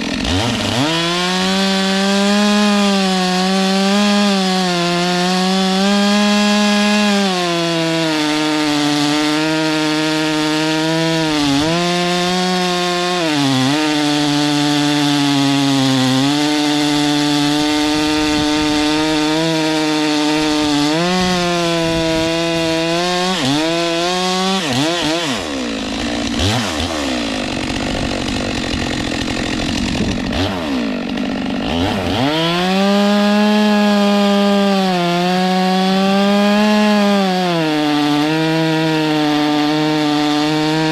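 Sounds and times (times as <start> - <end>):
chainsaw cutting a log: 0.0 - 40.9.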